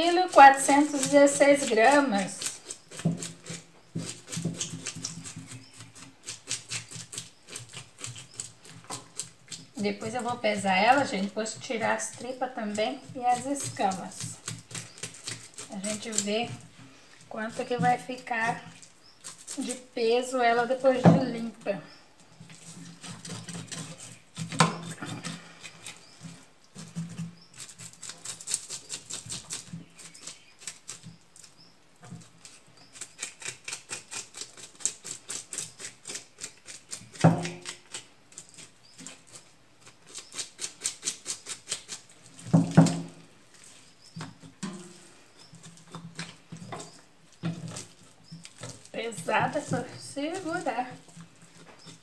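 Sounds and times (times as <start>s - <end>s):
knife scraping fish scales: 0.0s - 21.5s, 22.5s - 31.5s, 32.2s - 52.0s.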